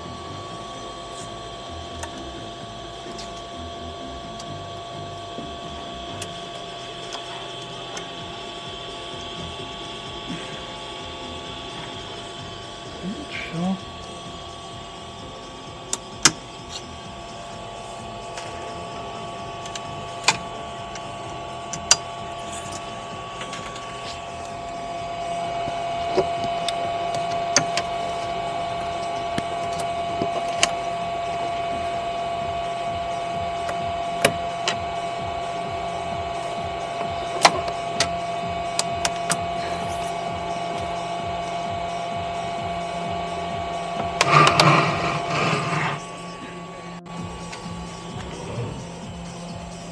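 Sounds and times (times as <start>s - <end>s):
printer motors and fans whining: 0.0s - 49.9s.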